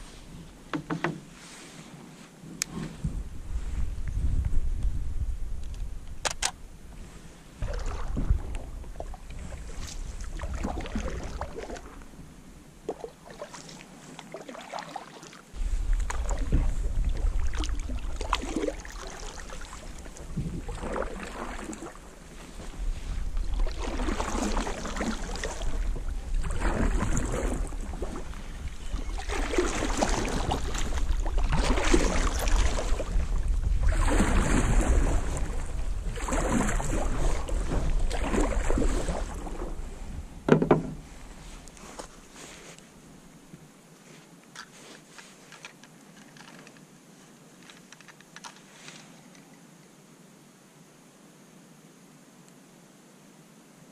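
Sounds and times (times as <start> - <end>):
paddle swishing through water: 0.0 - 4.4, 6.9 - 46.6.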